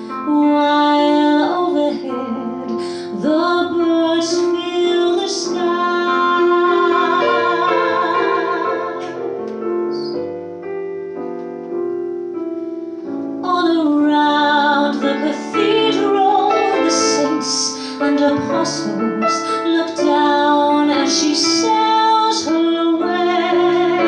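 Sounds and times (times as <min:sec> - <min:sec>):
woman singing a slow ballad: 0:00.0 - 0:09.3, 0:13.4 - 0:24.0
piano accompaniment: 0:00.0 - 0:24.0.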